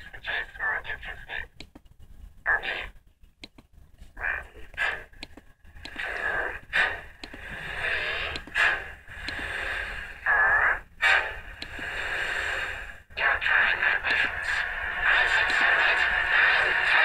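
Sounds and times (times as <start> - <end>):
distorted pitch-shifted voice bursts: 0.0 - 1.6, 2.5 - 3.0, 4.2 - 5.2, 5.8 - 17.0.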